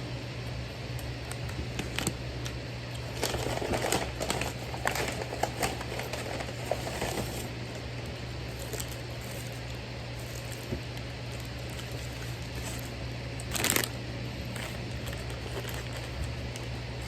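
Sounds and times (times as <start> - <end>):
steady low hum: 0.0 - 17.0
paper wrapper crinkling: 1.3 - 2.2, 3.0 - 17.0.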